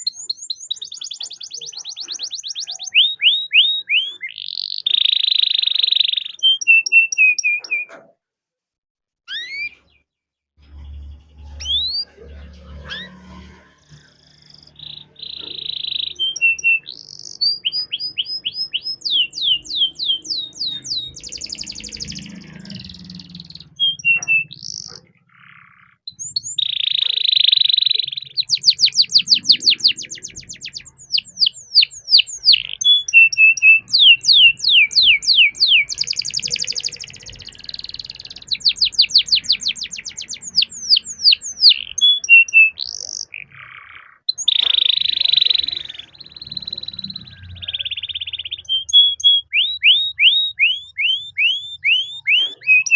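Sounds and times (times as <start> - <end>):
canary singing: 0.0 - 8.1, 9.3 - 10.0, 10.6 - 52.9.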